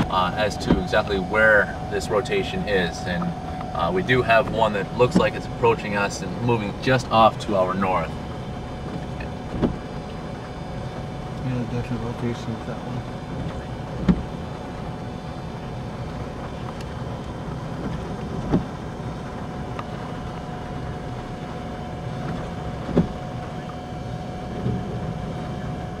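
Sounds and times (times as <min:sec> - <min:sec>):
car engine rumble: 0:00.0 - 0:26.0
faint steady whine: 0:00.0 - 0:26.0
road noise: 0:00.0 - 0:26.0.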